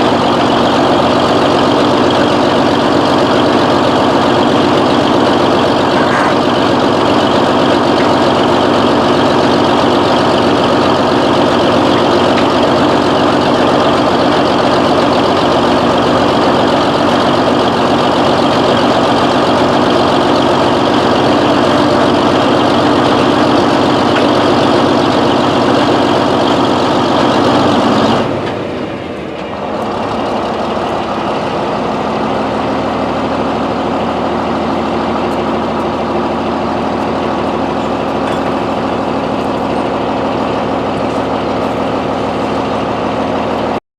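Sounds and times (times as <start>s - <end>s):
large diesel engine running: 0.0s - 43.8s.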